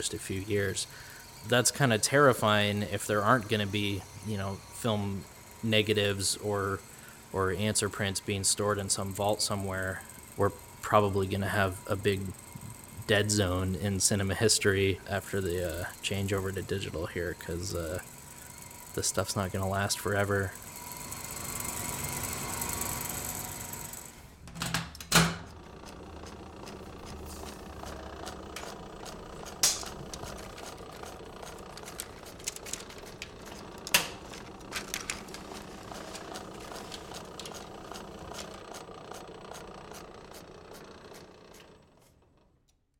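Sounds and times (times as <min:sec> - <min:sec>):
film projector clattering: 0:00.0 - 0:24.2, 0:25.1 - 0:42.4.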